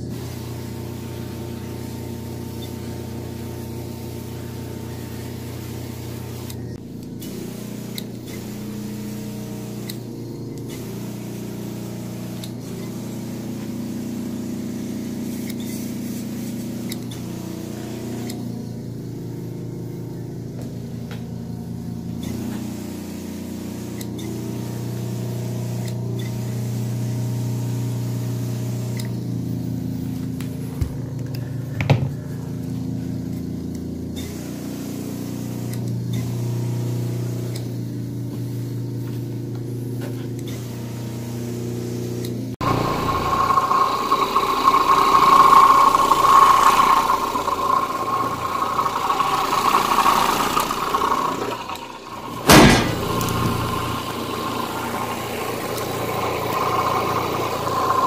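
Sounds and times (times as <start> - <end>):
carpet cleaning machine motor humming: 0.0 - 42.0, 42.6 - 58.0.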